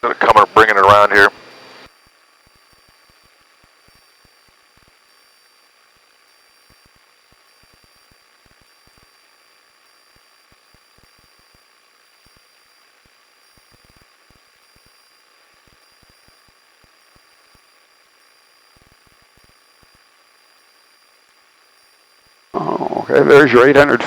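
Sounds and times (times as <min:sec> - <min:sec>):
headset static hiss: 0:00.0 - 0:24.0.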